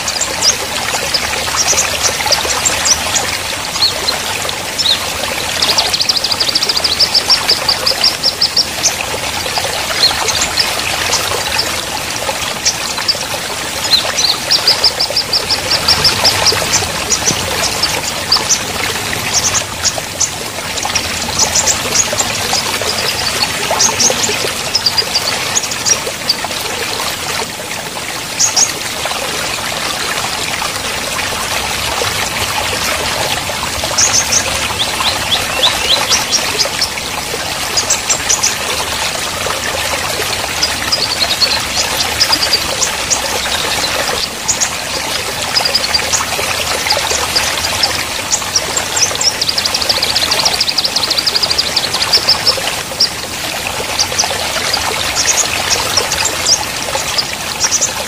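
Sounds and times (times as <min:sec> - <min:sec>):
small birds chirping: 0:00.0 - 0:27.0, 0:32.5 - 0:53.2
stream running over stones: 0:00.0 - 0:58.0.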